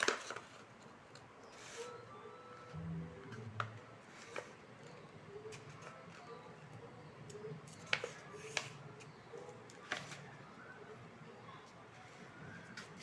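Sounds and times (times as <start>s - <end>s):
faint low hum: 1.9s - 12.8s.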